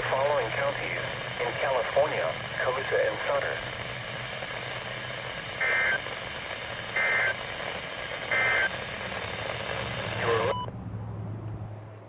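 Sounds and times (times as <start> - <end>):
radio hiss: 0.0 - 10.7.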